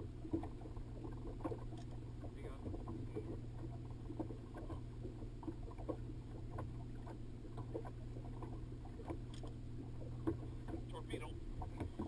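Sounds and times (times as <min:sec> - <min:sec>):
boat motor hum: 0:00.0 - 0:12.0
water slapping against hull: 0:00.0 - 0:12.0.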